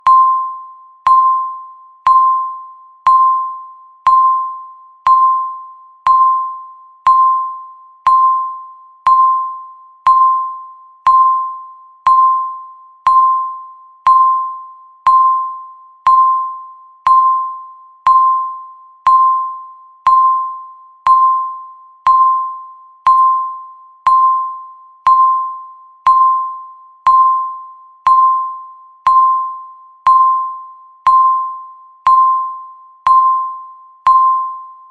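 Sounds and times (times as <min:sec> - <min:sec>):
countdown timer beeps: 0:00.0 - 0:34.9.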